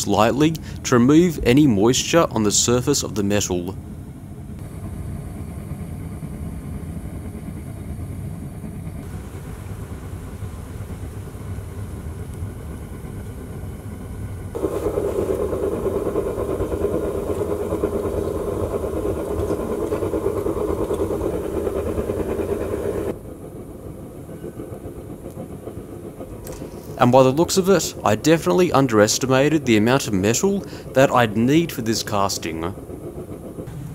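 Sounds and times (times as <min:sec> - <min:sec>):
furnace burner rushing: 0:00.0 - 0:33.9.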